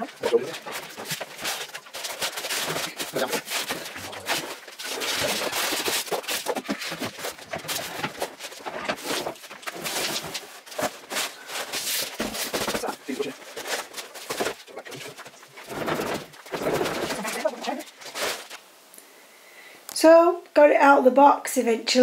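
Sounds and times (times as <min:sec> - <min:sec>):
packing material crinkling: 0:00.0 - 0:18.6
scrapes and knocks on cardboard: 0:00.2 - 0:18.6.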